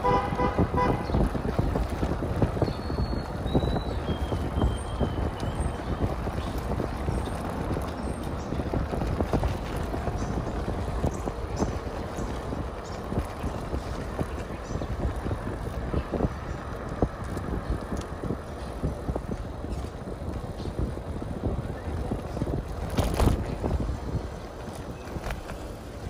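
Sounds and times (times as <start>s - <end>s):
wind rumble on microphone: 0.0s - 26.0s
bicycle clicks and rattles: 1.0s - 26.0s.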